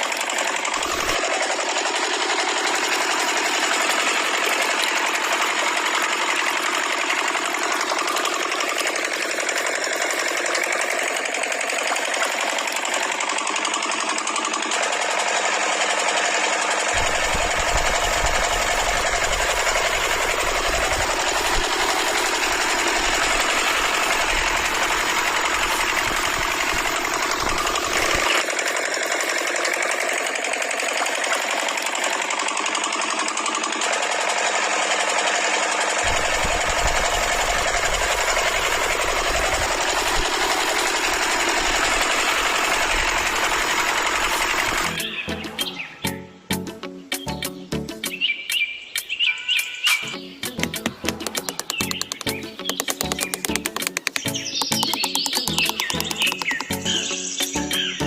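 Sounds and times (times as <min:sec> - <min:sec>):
small motor rattling: 0:00.0 - 0:45.9, 0:50.4 - 0:58.0.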